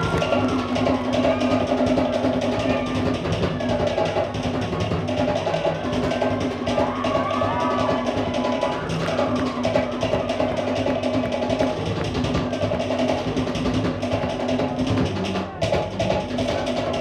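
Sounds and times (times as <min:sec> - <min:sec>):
drum ensemble playing dance beat: 0:00.0 - 0:17.0.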